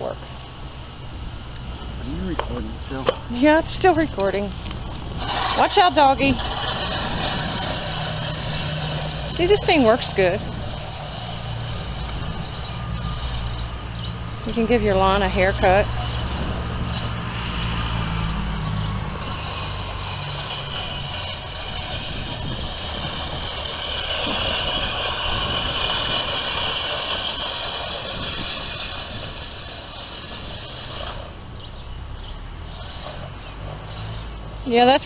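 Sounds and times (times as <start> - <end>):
push reel lawnmower whirring: 2.3 - 35.0.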